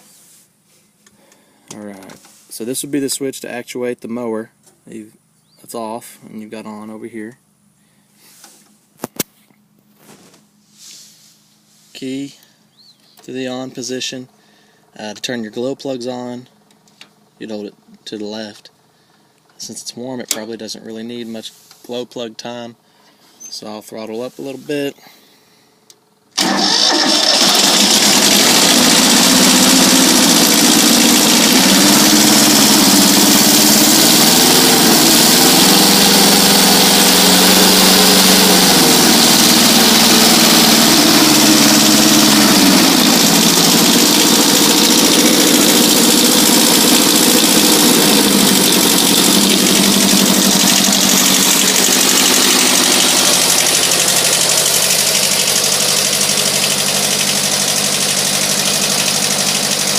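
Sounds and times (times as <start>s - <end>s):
tractor diesel engine running: 9.6s - 59.9s.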